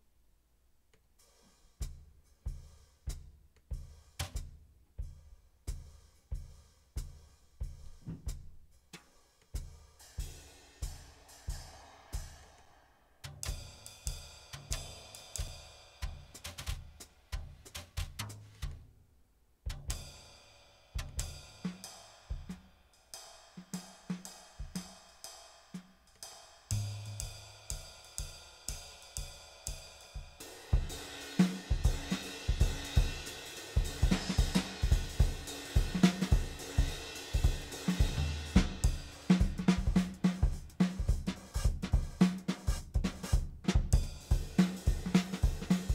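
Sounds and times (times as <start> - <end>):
drum kit playing grooves: 1.2 - 12.5, 13.2 - 18.8, 21.0 - 22.6, 23.5 - 45.9.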